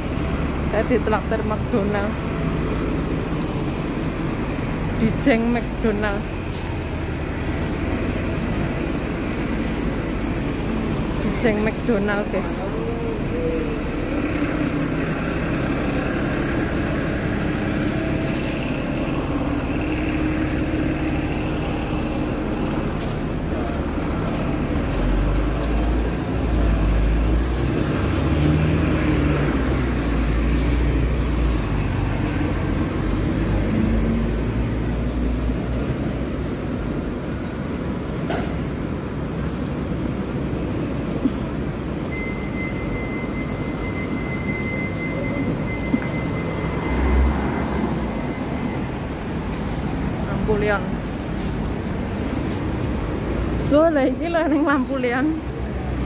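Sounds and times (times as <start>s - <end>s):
heavy low rumble: 0.0s - 56.0s
steady traffic noise: 0.0s - 56.0s.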